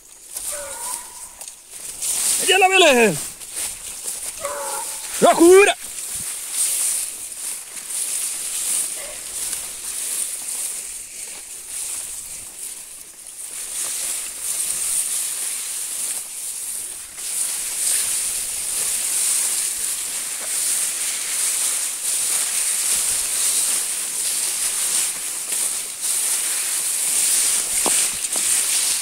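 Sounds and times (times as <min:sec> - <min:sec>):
rustling of grass and brush: 0:00.0 - 0:29.0
steady high-pitched hiss: 0:00.0 - 0:29.0.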